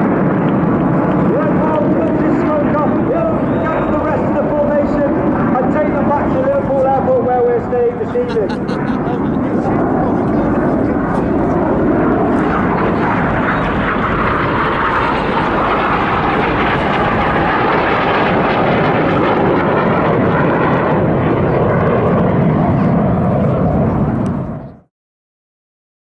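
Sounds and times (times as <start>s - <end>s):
jets flying over: 0.0s - 24.8s.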